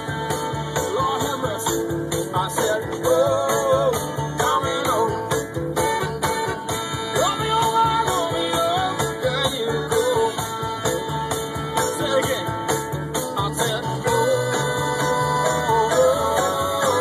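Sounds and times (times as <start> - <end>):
song with singing over a beat: 0.0 - 17.0.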